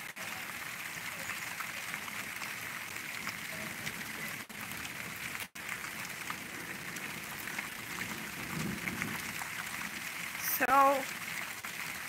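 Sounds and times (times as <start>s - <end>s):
rain hissing: 0.0s - 12.0s
raindrop ticks: 0.0s - 12.0s.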